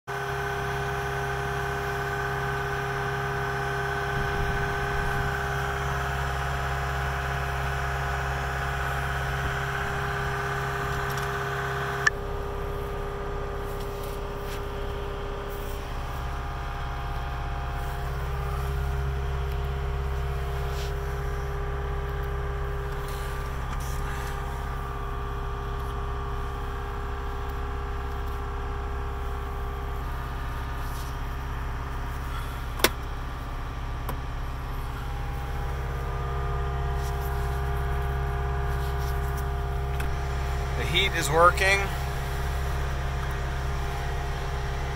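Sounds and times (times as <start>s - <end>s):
diesel engine hum inside cab: 0.1s - 44.9s.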